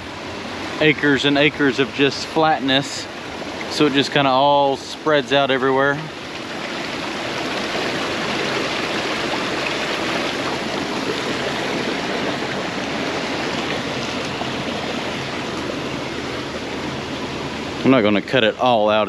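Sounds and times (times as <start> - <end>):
water rushing through a dam breach: 0.0 - 19.0.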